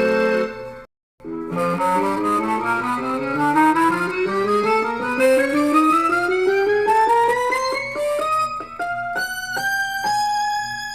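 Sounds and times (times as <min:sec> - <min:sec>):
electronic accordion run: 0:00.0 - 0:10.9.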